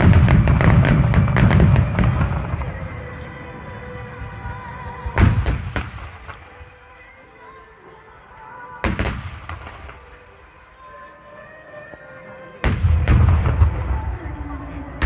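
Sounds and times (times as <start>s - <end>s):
fireworks bursting: 0.0s - 15.0s
music: 0.0s - 15.0s.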